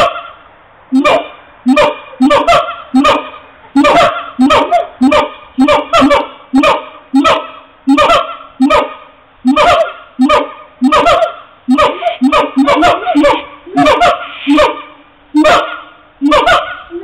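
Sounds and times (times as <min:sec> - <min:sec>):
gibbons barking calls: 0:00.0 - 0:17.0.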